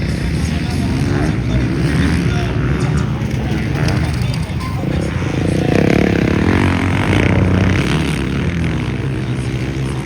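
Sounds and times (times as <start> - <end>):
motocross bikes revving past: 0.0 - 10.0.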